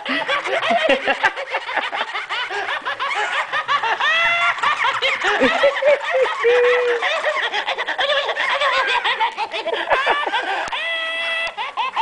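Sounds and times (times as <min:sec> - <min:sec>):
toy giggling through speaker: 0:00.0 - 0:12.0.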